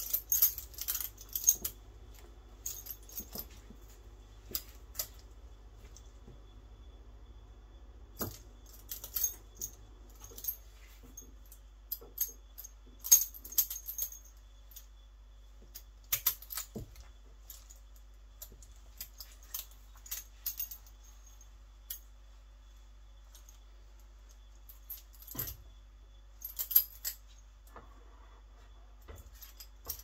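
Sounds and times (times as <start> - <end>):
handcuffs and chain clinking: 0.0 - 6.5, 8.1 - 22.3, 23.1 - 27.8, 28.4 - 30.0.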